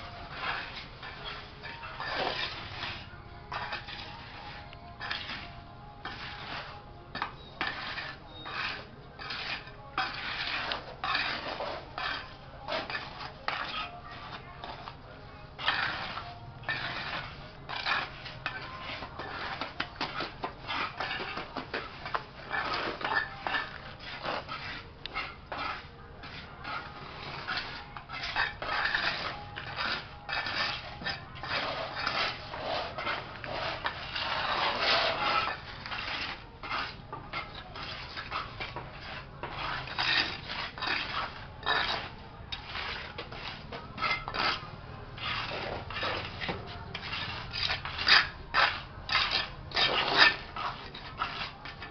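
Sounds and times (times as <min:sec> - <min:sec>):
tools scraping wet cement: 0:00.0 - 0:51.9.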